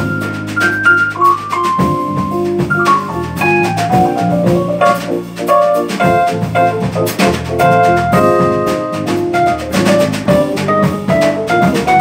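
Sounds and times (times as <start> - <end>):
drums: 0.0 - 12.0
electric bass: 0.0 - 12.0
keyboard: 0.0 - 12.0.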